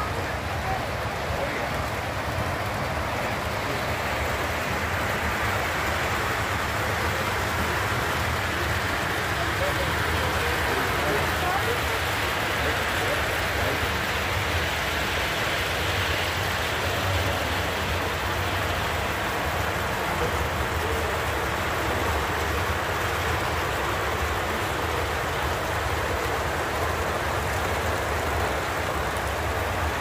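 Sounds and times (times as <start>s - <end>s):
model train wheels rumbling: 0.0s - 30.0s.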